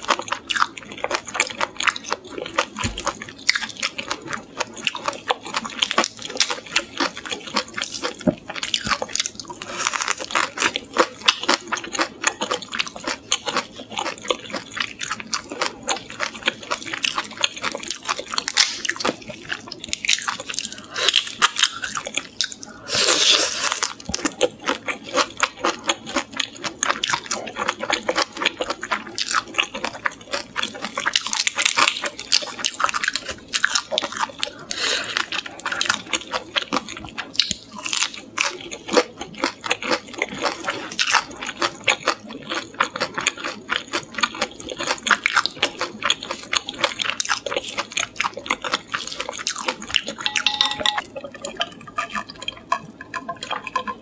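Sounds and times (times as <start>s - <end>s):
crunching crispy shrimp heads: 0.0s - 54.0s.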